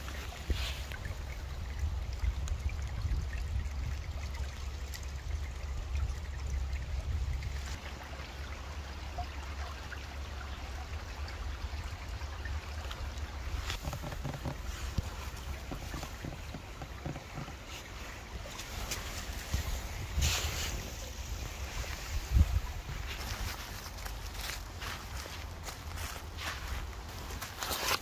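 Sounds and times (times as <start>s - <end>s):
creek babbling over rocks: 0.0s - 28.0s.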